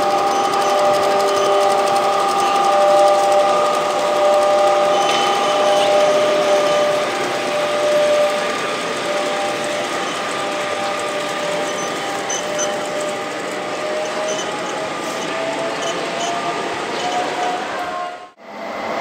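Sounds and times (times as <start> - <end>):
model locomotive mechanical whine: 0.0 - 19.0.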